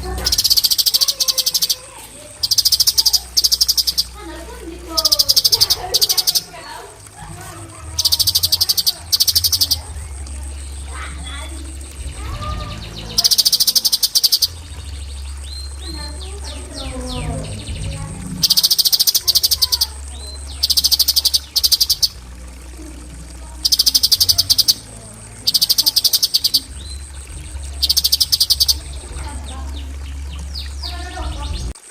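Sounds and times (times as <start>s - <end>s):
bird buzzing trills: 0.0s - 31.9s
low hum: 2.0s - 31.8s.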